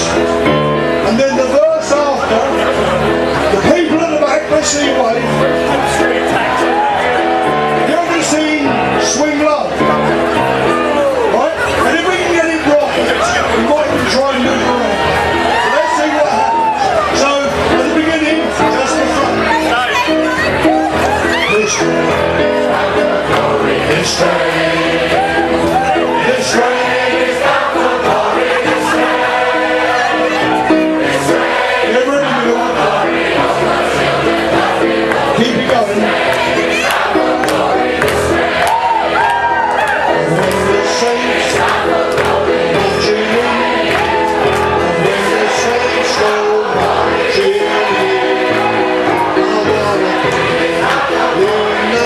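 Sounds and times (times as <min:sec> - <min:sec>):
crowd singing gospel song: 0:00.0 - 0:52.0
instrumental accompaniment: 0:00.0 - 0:52.0
live band playing: 0:00.0 - 0:52.0.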